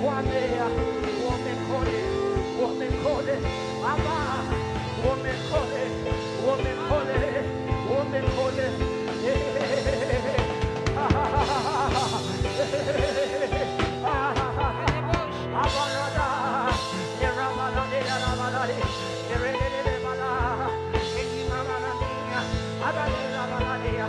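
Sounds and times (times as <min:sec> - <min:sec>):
person singing with vibrato: 0:00.0 - 0:24.0.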